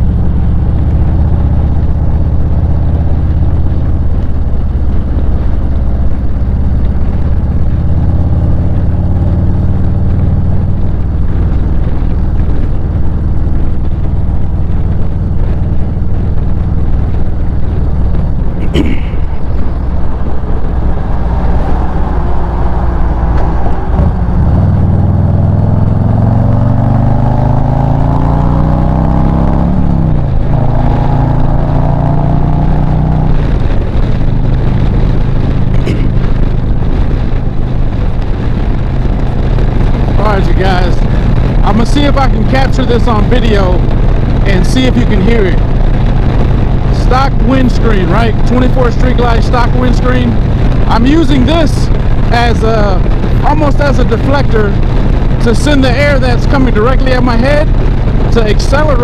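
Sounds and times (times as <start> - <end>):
motorcycle engine at speed: 0.0 - 59.0
wind rush at helmet: 0.0 - 59.0.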